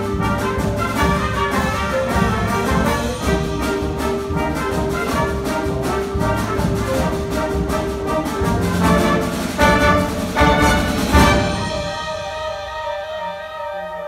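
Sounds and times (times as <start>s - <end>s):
concert band playing: 0.0s - 14.0s
loud accented band chords: 0.0s - 14.0s.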